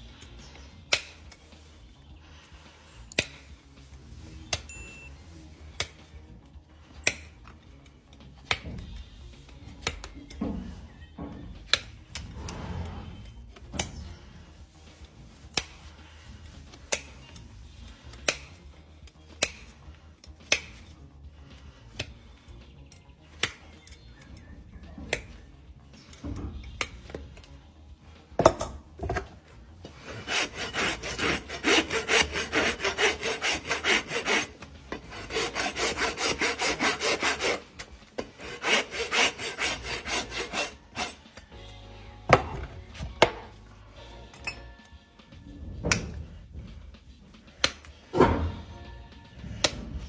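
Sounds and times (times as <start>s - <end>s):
rasp filing a hoof: 0.0s - 28.4s, 29.0s - 41.6s, 45.4s - 50.0s.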